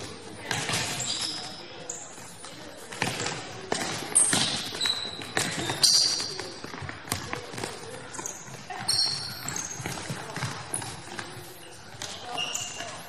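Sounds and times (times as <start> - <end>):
shoes squeaking on court: 0.0 - 13.0.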